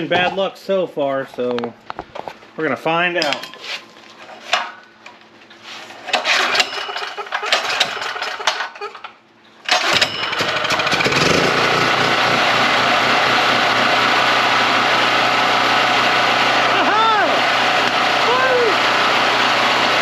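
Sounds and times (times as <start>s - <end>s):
generator engine starting and running: 4.0s - 20.0s.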